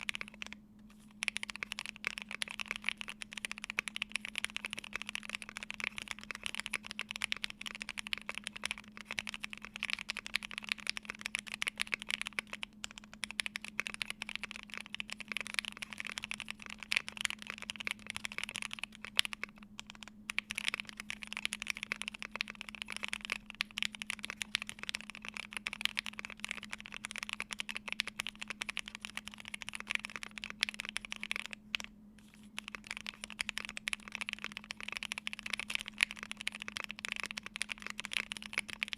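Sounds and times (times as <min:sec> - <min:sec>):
mechanical keyboard typing: 0:00.0 - 0:00.6, 0:01.2 - 0:38.9.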